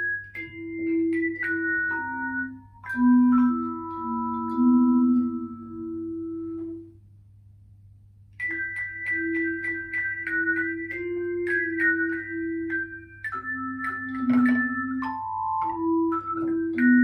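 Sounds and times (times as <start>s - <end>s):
tone chimes playing a melody: 0.0s - 6.6s, 8.4s - 17.0s.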